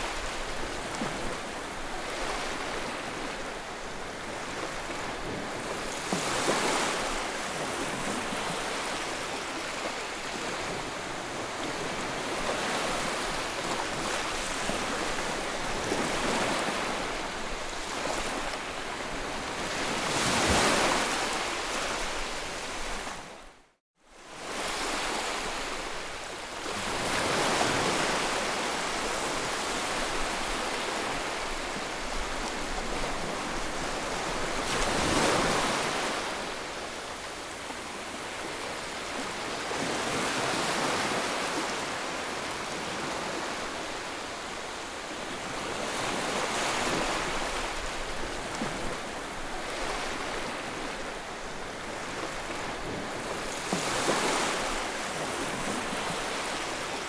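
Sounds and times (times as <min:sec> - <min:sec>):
ocean waves surf roar: 0:00.0 - 0:23.5, 0:24.4 - 0:57.0.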